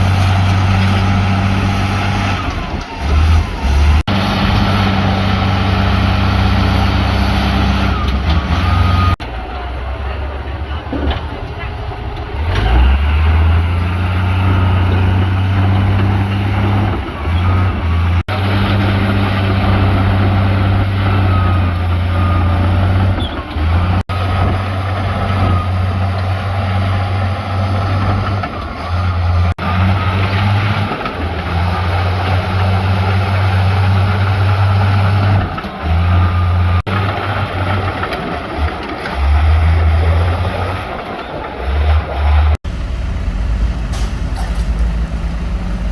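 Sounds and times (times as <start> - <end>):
heavy diesel machines droning: 0.0 - 45.9.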